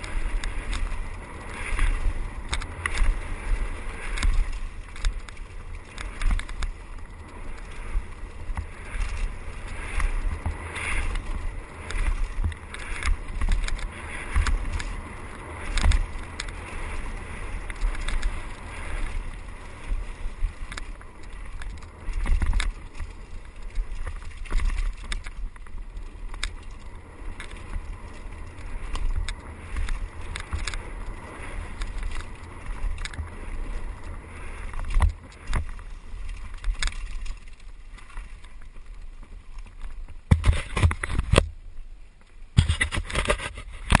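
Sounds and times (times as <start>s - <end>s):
bike knocks and rattles: 0.0s - 41.6s, 42.5s - 44.0s.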